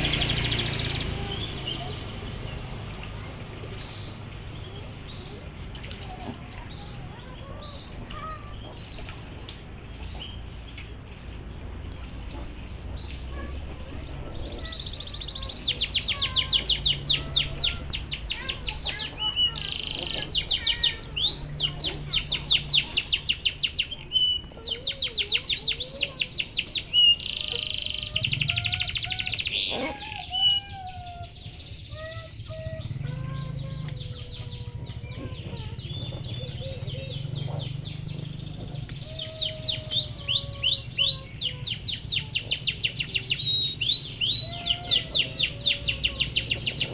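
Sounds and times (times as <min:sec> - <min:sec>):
canary singing trills: 0:00.0 - 0:09.0, 0:13.0 - 0:46.9.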